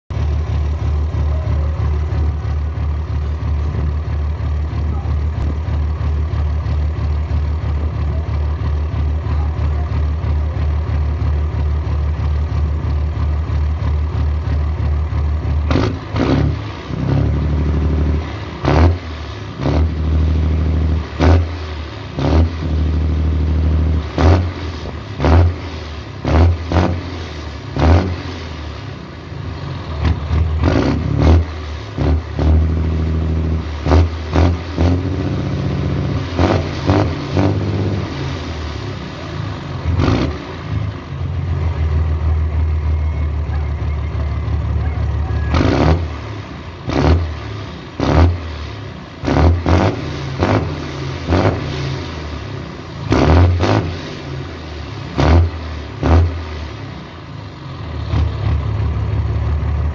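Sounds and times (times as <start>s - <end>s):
diesel truck engine revving: 0.0s - 59.9s.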